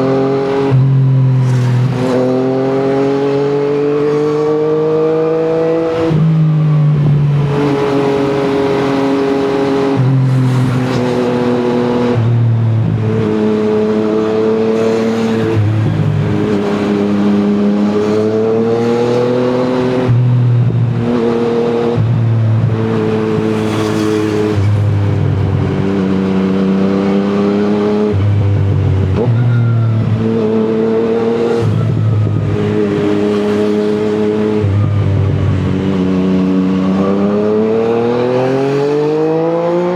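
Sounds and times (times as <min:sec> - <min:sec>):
motorcycle engine revving: 0:07.4 - 0:39.9.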